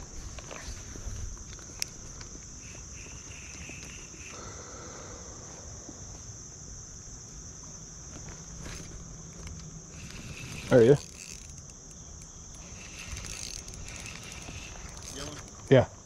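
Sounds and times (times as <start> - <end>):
insects singing: 0.0 - 16.0.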